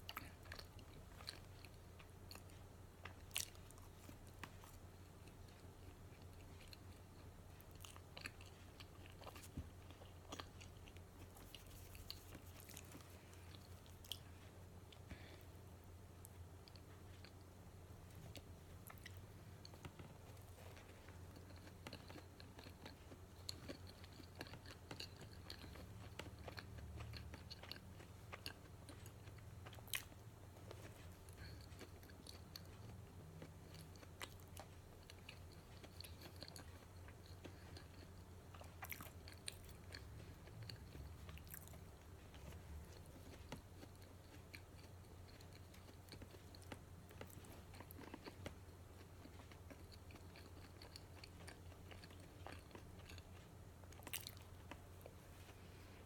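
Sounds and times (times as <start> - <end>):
person chewing donuts: 0.0 - 56.0.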